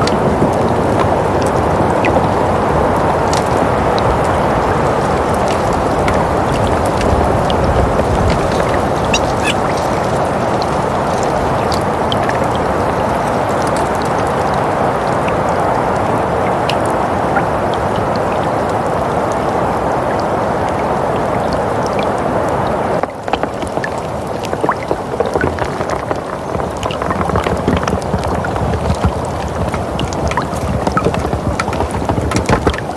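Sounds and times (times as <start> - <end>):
faint ticks and crackles: 0.0 - 19.4, 23.0 - 32.9.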